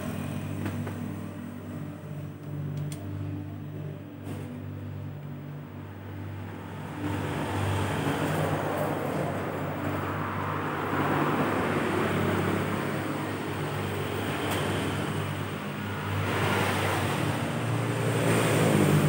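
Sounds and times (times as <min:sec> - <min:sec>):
traffic rushing noise: 0:00.0 - 0:02.0, 0:04.2 - 0:19.0
low engine hum: 0:00.0 - 0:19.0.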